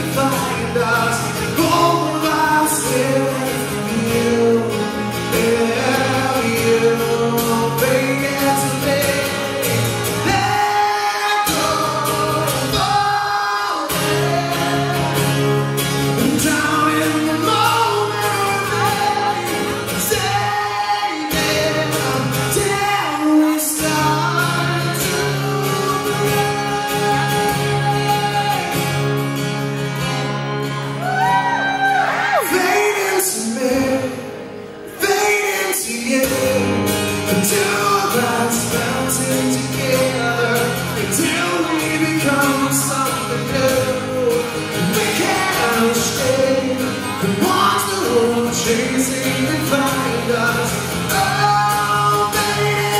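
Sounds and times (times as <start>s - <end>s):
man singing rock ballad: 0.0s - 30.4s, 31.0s - 52.9s
acoustic guitar: 0.0s - 52.9s.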